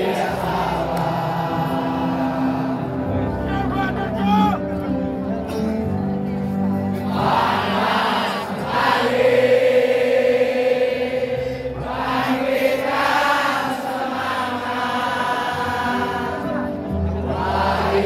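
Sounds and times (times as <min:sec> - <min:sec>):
crowd singing a chant: 0:00.0 - 0:03.5, 0:06.9 - 0:18.0.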